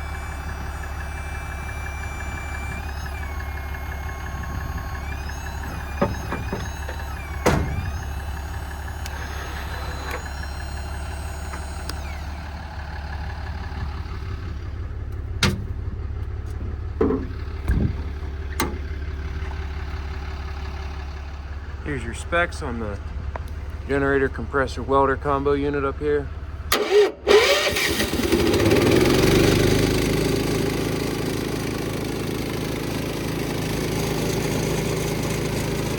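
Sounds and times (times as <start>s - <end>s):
engine idling: 0.0s - 35.9s.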